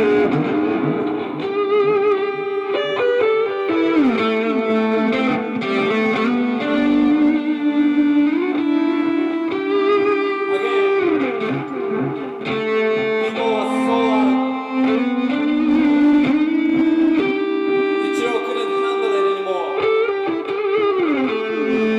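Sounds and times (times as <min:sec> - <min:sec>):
instrumental music with sliding notes: 0:00.0 - 0:21.9.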